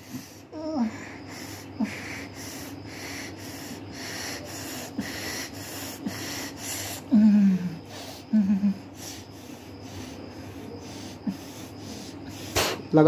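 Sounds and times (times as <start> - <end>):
rapid heavy breathing: 0.0 - 12.9.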